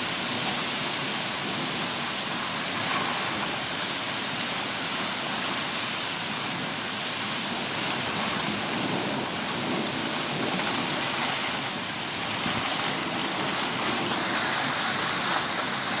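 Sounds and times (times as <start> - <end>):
rain falling steadily: 0.0 - 16.0.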